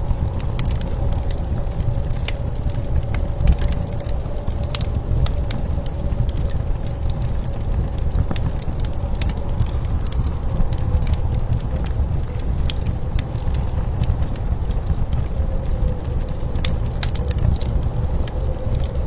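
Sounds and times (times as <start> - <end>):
blizzard wind rumbling: 0.0 - 19.0
wood fire crackling and popping: 0.0 - 19.0.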